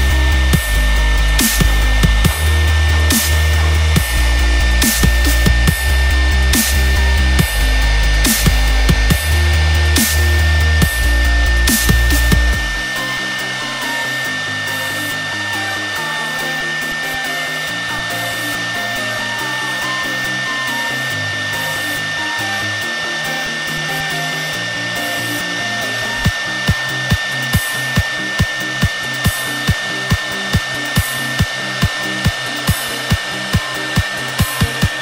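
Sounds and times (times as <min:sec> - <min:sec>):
electronic background music: 0:00.0 - 0:35.0
router spindle high whine: 0:00.0 - 0:35.0.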